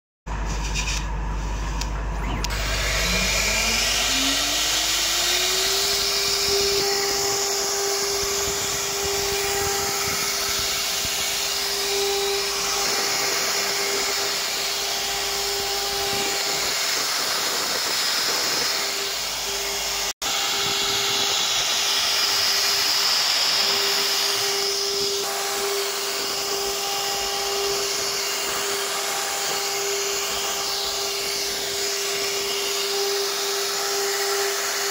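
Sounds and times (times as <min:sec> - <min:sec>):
router spindle whine: 0:01.0 - 0:34.9
hiss of cutting wood: 0:02.5 - 0:34.9.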